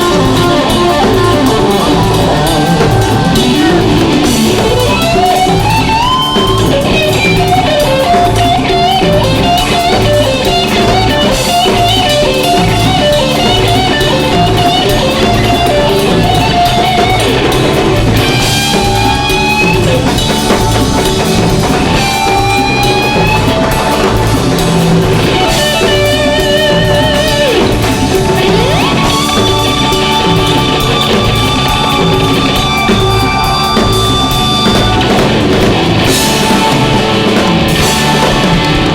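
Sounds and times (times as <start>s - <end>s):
lead guitar line with bends: 0.0s - 38.9s
live rock band playing: 0.0s - 38.9s
steady drum beat: 0.0s - 38.9s.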